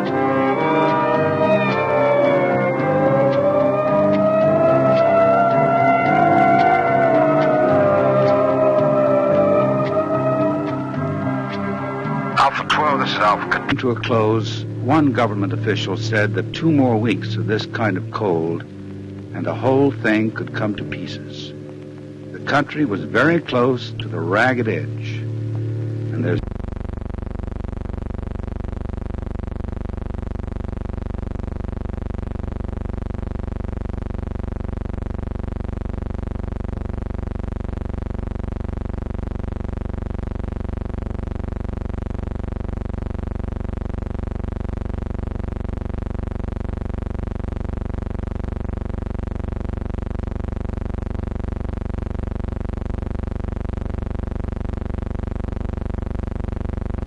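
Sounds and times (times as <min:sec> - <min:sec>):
steady electrical hum: 0:00.0 - 0:57.0.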